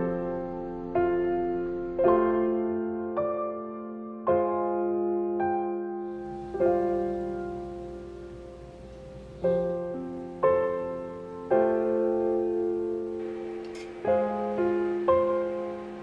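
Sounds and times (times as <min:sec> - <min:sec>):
slow solo piano chords: 0:00.0 - 0:16.0.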